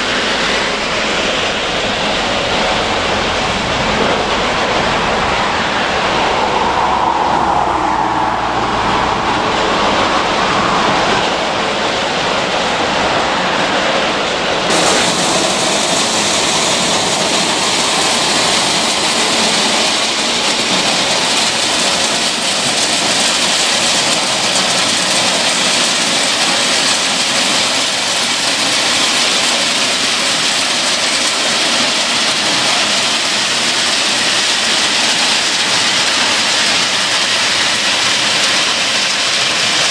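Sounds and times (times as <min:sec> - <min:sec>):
wagons rumbling: 0:00.0 - 0:39.9.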